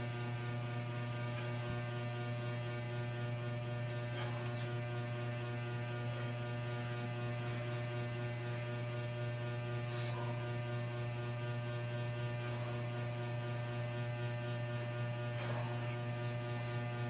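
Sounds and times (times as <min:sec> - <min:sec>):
electrical hum: 0:00.0 - 0:17.0
faint pulsing high tone: 0:00.0 - 0:17.0.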